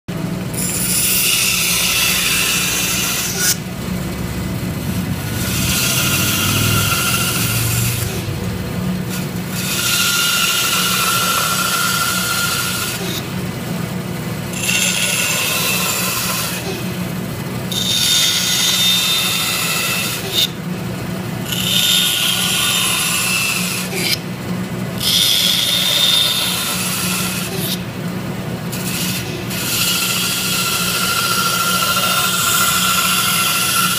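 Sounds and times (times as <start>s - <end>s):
bandsaw motor hum: 0.1s - 33.9s
blade rasping through wood: 0.6s - 3.9s, 4.9s - 13.3s, 14.5s - 17.0s, 17.7s - 20.6s, 21.4s - 24.2s, 25.0s - 27.8s, 28.7s - 33.9s.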